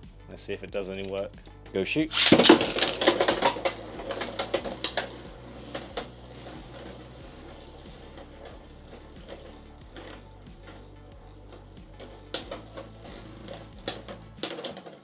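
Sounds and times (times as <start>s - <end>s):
spinning tops clacking: 2.1s - 15.0s
spinning tops rattling whir: 2.1s - 15.0s.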